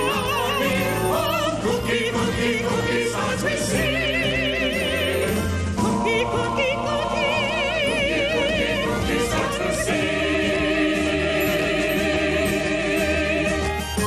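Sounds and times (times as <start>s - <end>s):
background music: 0.0s - 14.0s
opera singing with vibrato: 0.0s - 14.0s.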